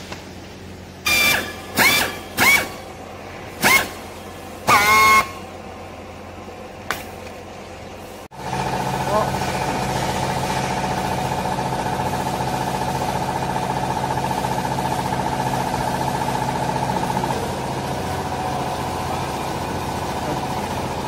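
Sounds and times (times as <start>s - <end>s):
machine humming: 0.0s - 21.0s.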